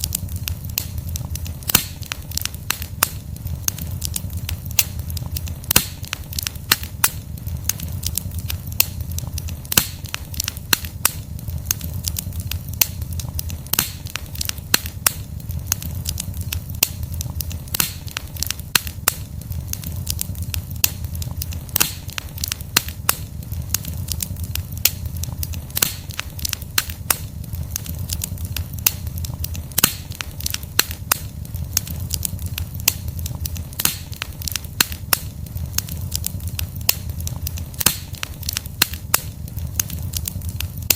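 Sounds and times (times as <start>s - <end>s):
logs crackling and popping: 0.0s - 40.9s
low steady fire rumble: 0.0s - 40.9s.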